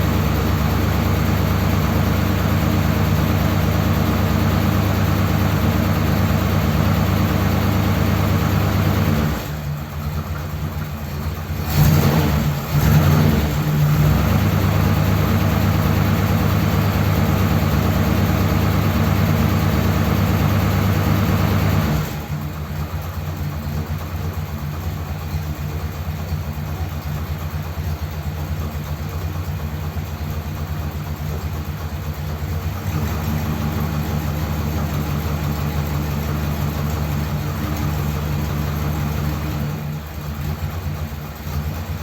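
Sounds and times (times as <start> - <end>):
car engine idling roughly: 0.0 - 42.0.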